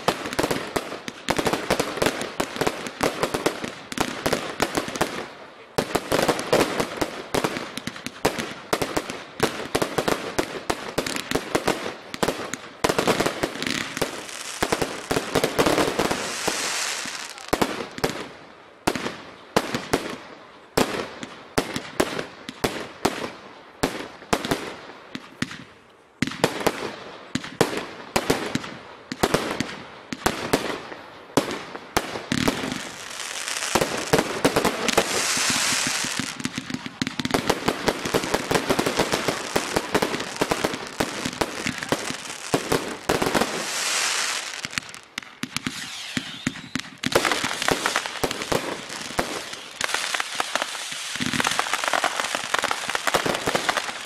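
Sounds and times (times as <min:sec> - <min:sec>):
fireworks bangs and pops: 0:00.0 - 0:20.2, 0:20.8 - 0:54.0
fireworks crackling and hissing: 0:00.0 - 0:54.0.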